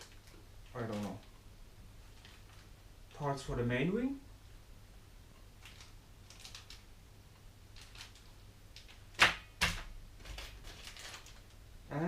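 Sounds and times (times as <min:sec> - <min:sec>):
faint rustling of bags: 0:00.0 - 0:04.0, 0:05.4 - 0:09.2, 0:10.1 - 0:12.0.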